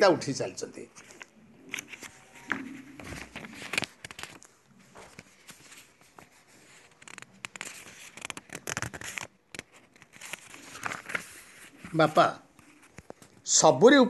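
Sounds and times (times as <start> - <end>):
irregular crackling and clicking: 1.0 - 11.3, 12.5 - 13.5.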